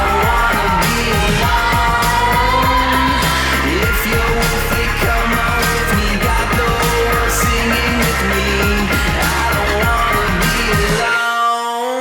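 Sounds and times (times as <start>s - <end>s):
pop-rock music with guitar and beat: 0.0s - 11.8s.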